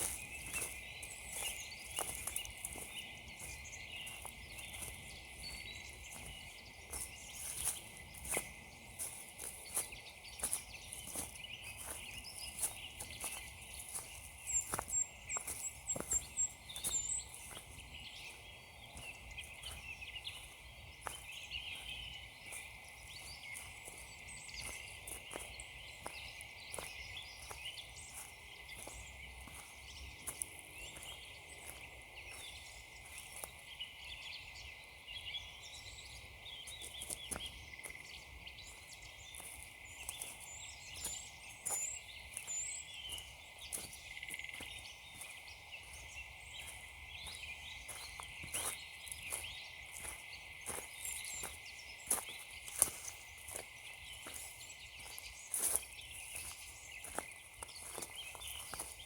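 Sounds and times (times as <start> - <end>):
footsteps crunching on frozen ground: 0.0 - 59.0
small birds chirping: 0.0 - 59.0.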